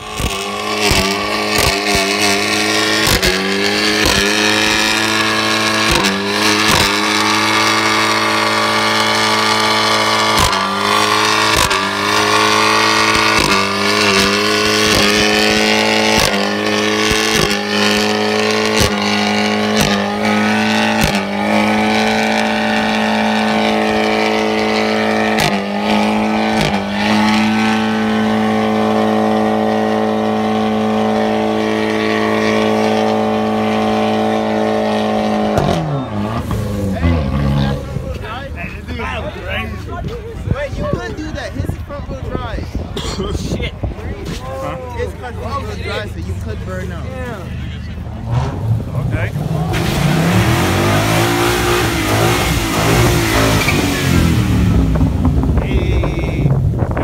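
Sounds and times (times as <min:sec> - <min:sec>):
spinning tyres squealing: 0:00.0 - 0:38.2, 0:47.4 - 0:55.4
car engine at high revs: 0:00.0 - 0:41.1, 0:42.0 - 0:57.0.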